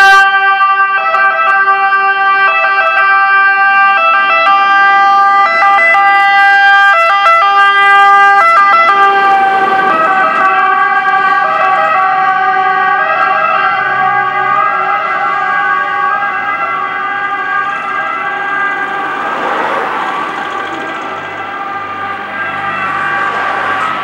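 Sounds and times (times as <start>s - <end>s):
fire engine two-tone siren: 0.0s - 24.0s.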